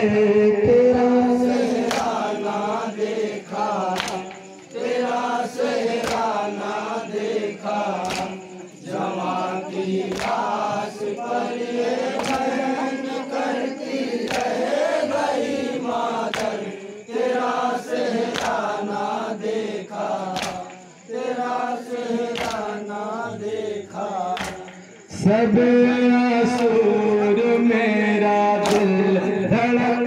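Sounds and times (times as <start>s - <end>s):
men chanting a lament in chorus: 0.0s - 30.0s.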